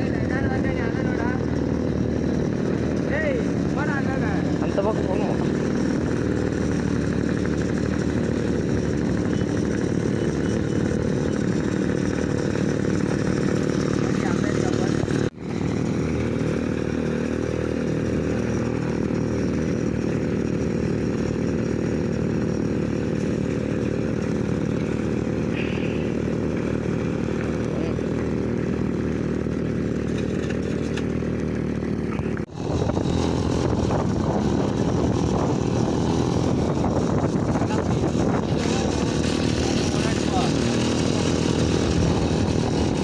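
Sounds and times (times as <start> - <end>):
small petrol engine running: 0.0 - 43.0.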